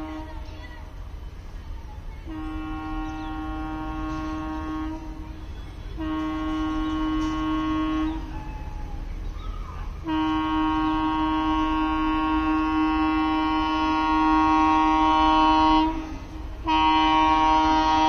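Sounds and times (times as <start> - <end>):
train horn blast: 0.0 - 0.5, 2.2 - 8.5, 10.0 - 18.0.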